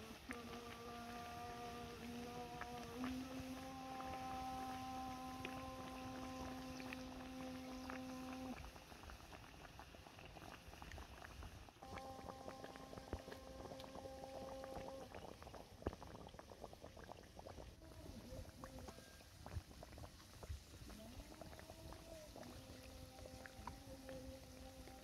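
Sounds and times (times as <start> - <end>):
hot oil sizzling and crackling: 0.0 - 17.7, 18.3 - 25.0
faint steady hum: 0.0 - 25.0.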